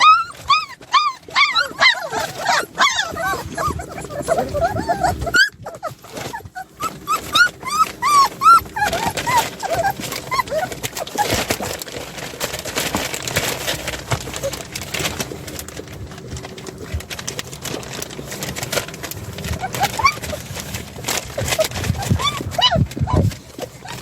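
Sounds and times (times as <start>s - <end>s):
puppies whimpering and yipping: 0.0s - 15.6s, 16.9s - 24.0s
clicks and rustling: 0.0s - 24.0s.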